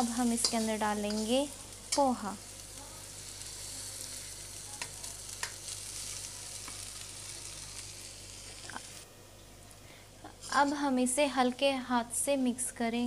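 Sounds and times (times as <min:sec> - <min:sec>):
masala sizzling in a pan: 0:00.0 - 0:09.1, 0:09.9 - 0:11.4.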